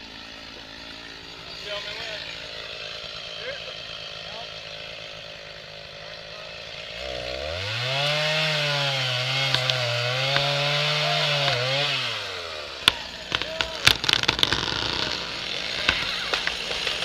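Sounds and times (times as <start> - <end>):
chainsaw revving and sawing: 0.0 - 17.0.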